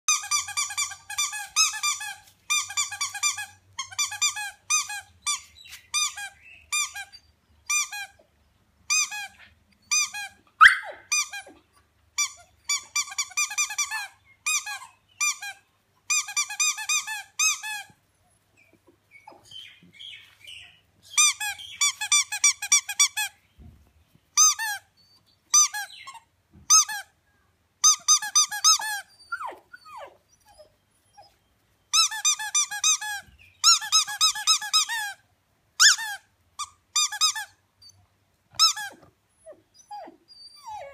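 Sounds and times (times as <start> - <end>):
squeaky toy squeaking: 0.1 - 8.3, 8.9 - 18.0, 21.1 - 23.4, 24.4 - 27.2, 27.8 - 31.3, 31.9 - 40.9.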